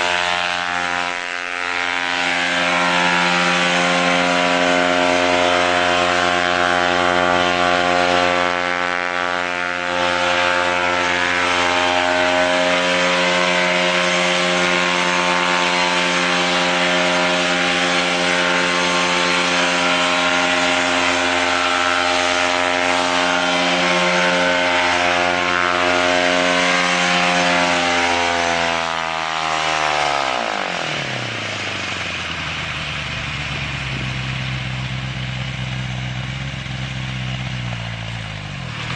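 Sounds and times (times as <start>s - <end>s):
small engines running at high speed: 0.0s - 38.9s.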